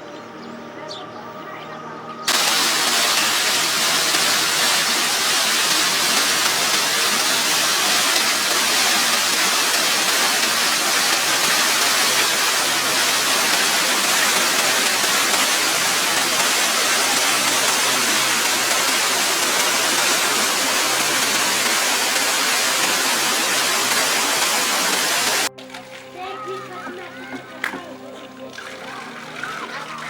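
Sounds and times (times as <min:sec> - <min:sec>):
water rushing: 0:02.3 - 0:30.0.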